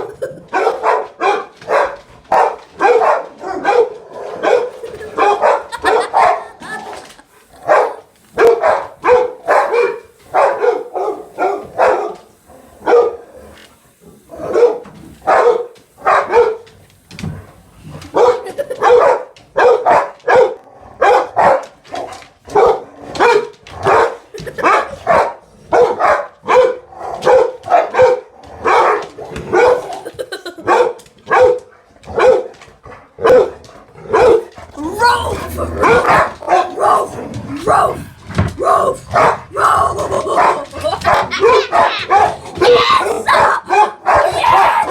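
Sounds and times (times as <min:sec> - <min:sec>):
dog barking: 0:00.5 - 0:13.4, 0:14.2 - 0:16.8, 0:18.0 - 0:44.9.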